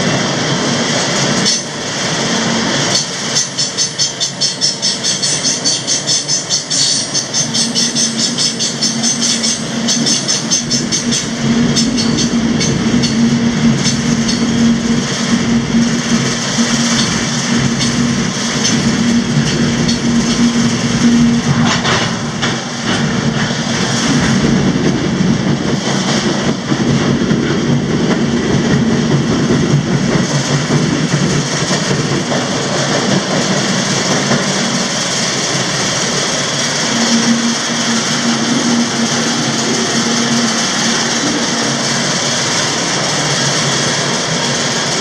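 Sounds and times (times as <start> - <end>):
freight cars rattling: 0.0 - 45.0
steady low hum: 0.0 - 45.0
train wheels clattering over rails: 0.0 - 45.0
rapid clicking: 1.0 - 45.0.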